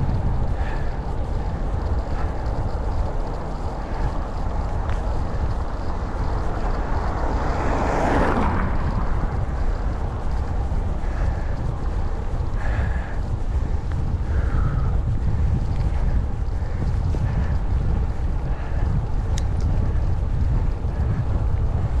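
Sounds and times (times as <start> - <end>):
rushing noise: 0.0 - 22.0
wind buffeting microphone: 0.0 - 22.0.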